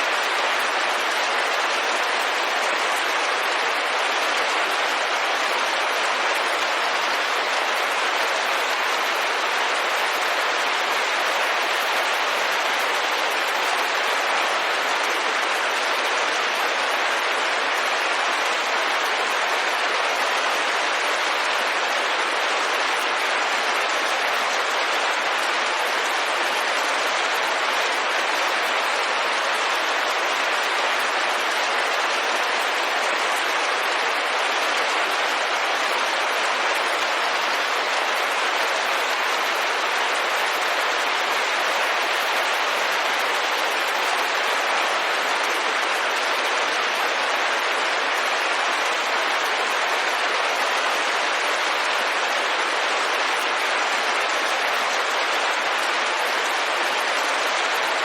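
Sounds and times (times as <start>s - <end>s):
rain on a window: 0.0s - 58.0s.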